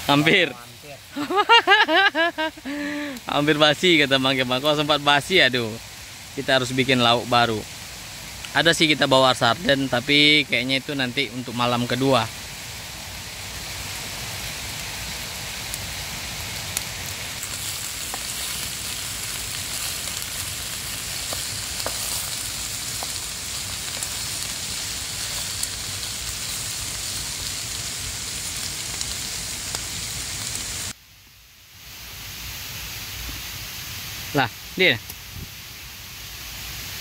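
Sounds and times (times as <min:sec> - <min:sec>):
food sizzling in a pan: 0:00.0 - 0:37.0.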